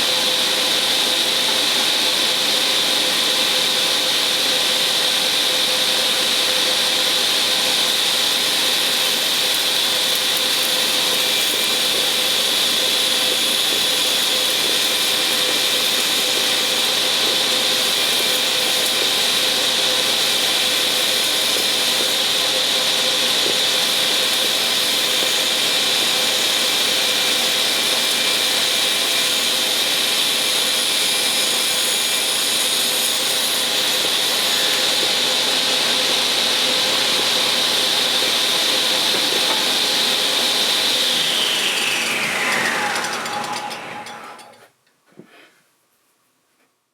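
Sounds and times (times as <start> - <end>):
table saw whining: 0.0 - 44.7.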